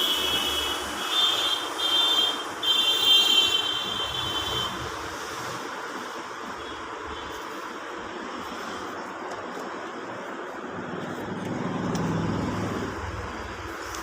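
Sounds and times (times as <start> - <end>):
traffic-like background noise: 0.0 - 14.0.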